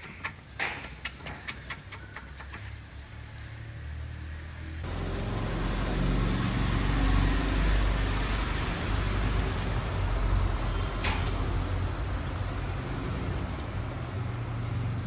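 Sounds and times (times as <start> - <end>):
road noise: 0.0 - 15.0
vehicle engine running: 2.1 - 15.0.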